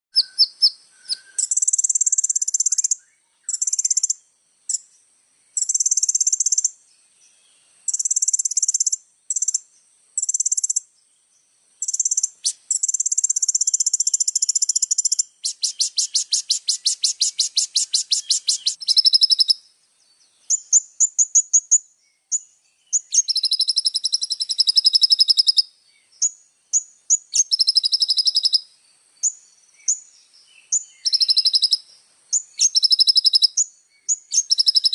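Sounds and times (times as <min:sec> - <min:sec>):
bird chirping: 0:00.1 - 0:34.9.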